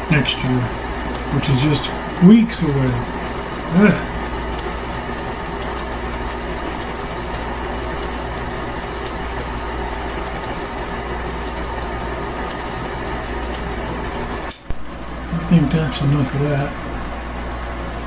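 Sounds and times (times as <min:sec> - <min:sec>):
stand mixer motor hum: 0:00.0 - 0:16.6.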